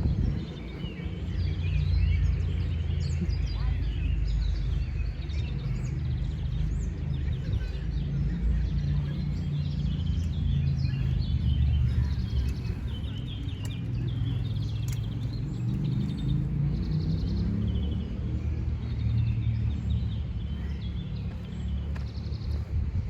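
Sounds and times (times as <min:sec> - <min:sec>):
songbirds chirping and trilling: 0:00.0 - 0:23.0
steady low rumble: 0:00.0 - 0:23.0.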